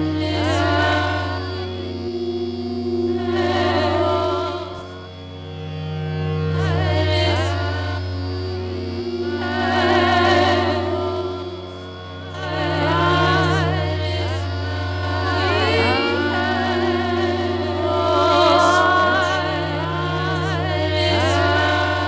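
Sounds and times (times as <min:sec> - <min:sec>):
looped vocal tones with vibrato: 0:00.0 - 0:22.0
low speaker feedback drone: 0:00.0 - 0:22.0.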